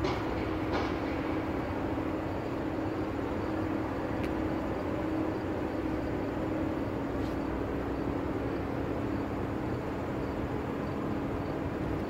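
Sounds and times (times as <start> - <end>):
city background noise: 0.0 - 12.0
low machinery hum: 0.0 - 12.0.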